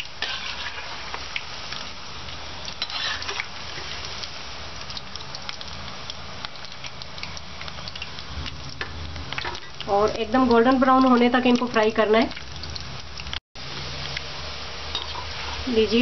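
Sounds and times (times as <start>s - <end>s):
metal ladle stirring in oil: 0.0s - 13.4s, 14.9s - 16.0s
deep-frying sizzle with crackles: 0.0s - 16.0s.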